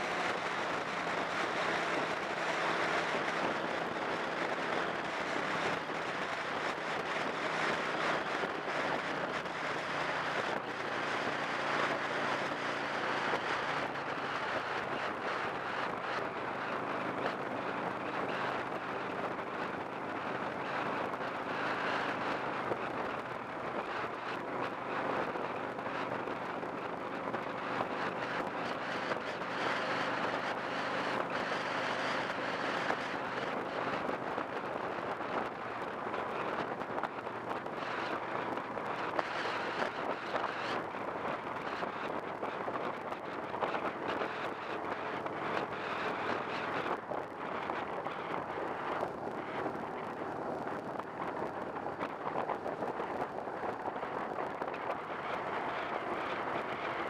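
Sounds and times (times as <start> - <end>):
car engine hum: 0.0 - 57.0
tyre and road noise: 0.0 - 57.0
wind buffeting microphone: 0.0 - 57.0.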